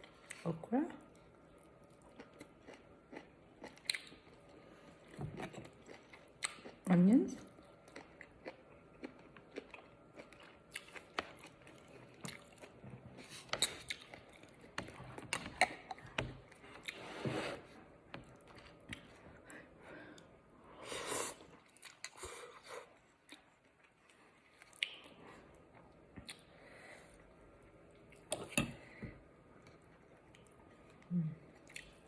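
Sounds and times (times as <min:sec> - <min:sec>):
person chewing food: 0:01.1 - 0:06.8, 0:07.5 - 0:17.0, 0:18.0 - 0:20.3, 0:21.6 - 0:32.0.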